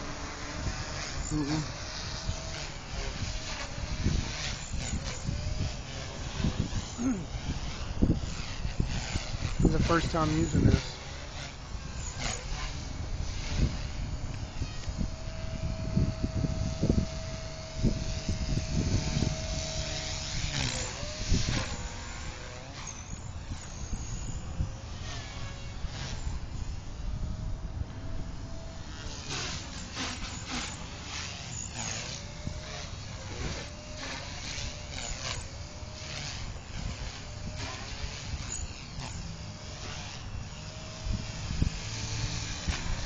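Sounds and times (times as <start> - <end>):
rc helicopter whining: 0.0 - 43.0.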